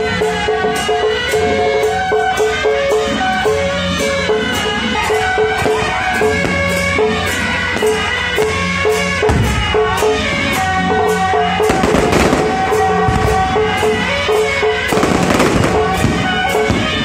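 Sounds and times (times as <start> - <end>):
festive music with drums and cymbals: 0.0 - 17.0.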